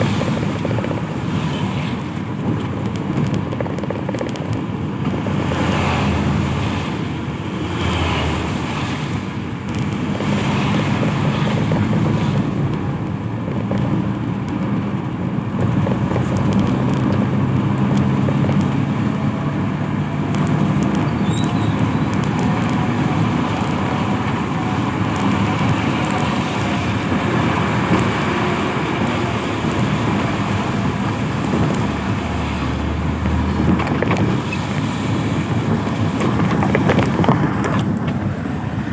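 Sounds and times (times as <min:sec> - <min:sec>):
engine hum: 0:00.0 - 0:38.9
road traffic passing: 0:00.0 - 0:38.9.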